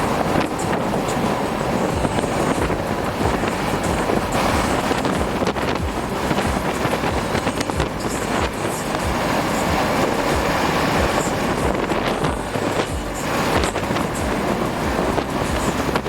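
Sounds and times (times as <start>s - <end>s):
low buffeting thumps: 0.0s - 16.0s
wind rushing across microphone: 0.0s - 16.0s.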